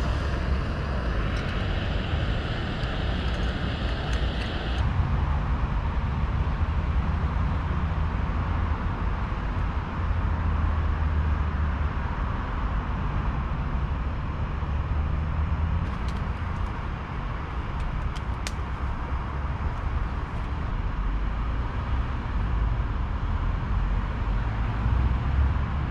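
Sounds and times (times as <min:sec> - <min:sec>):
traffic rumble: 0:00.0 - 0:25.9.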